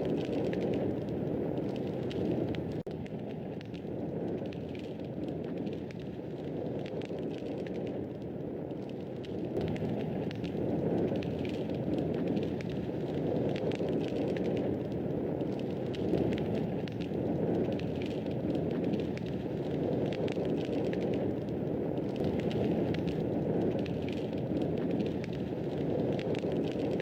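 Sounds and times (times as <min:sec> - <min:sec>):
fire crackling in fireplace: 0:00.0 - 0:27.0.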